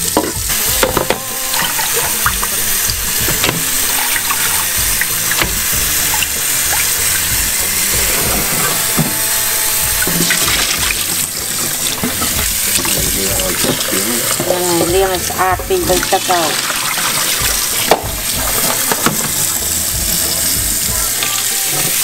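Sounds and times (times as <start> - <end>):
tap running into bowl: 0.0 - 21.9
bones rubbed and rinsed by hand: 0.0 - 22.0.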